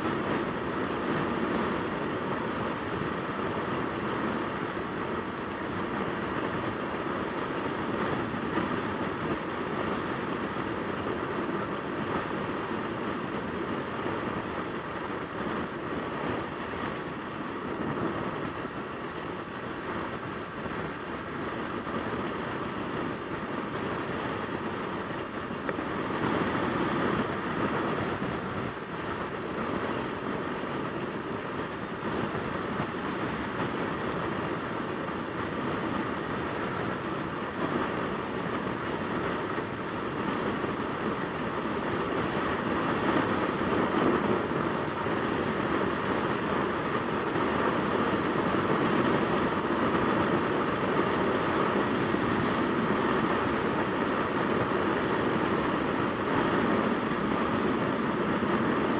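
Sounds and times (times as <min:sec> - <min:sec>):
road noise: 0:00.0 - 0:58.9
rushing wind: 0:00.0 - 0:58.9.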